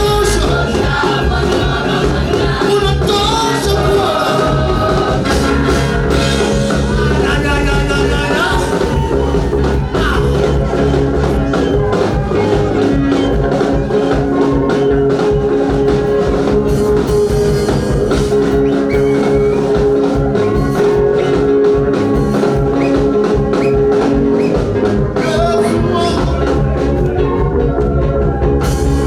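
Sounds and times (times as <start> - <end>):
band music with drums and guitar: 0.0 - 29.0.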